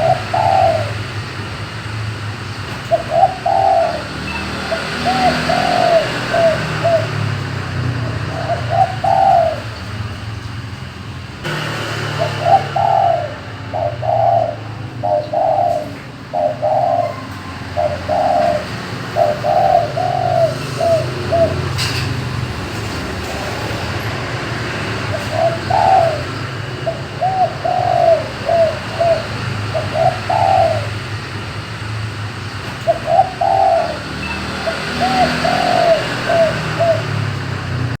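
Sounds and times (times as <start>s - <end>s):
dove cooing: 0.0s - 1.5s, 2.4s - 10.3s, 11.4s - 37.9s.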